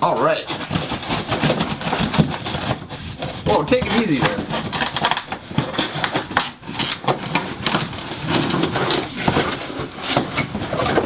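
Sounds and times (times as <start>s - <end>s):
cardboard box tearing and rustling: 0.3s - 11.0s.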